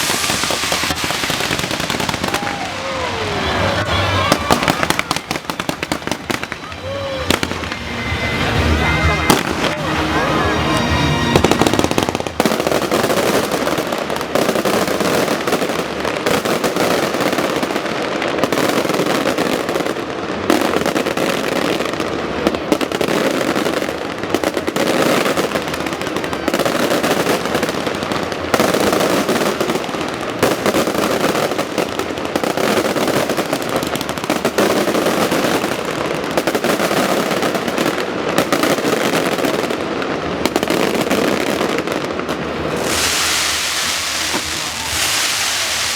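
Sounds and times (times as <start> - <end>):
fireworks crackling bangs: 0.0 - 45.9.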